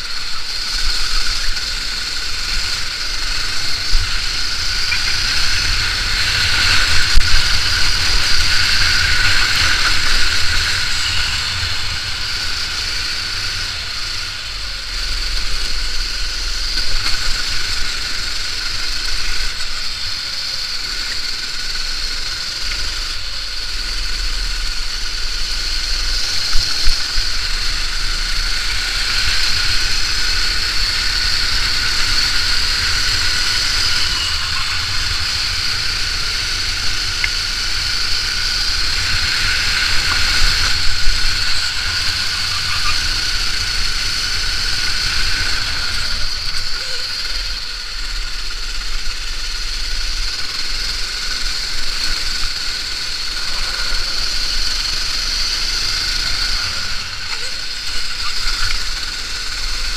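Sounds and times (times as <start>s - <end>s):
go-kart engine whine: 0.0s - 59.9s.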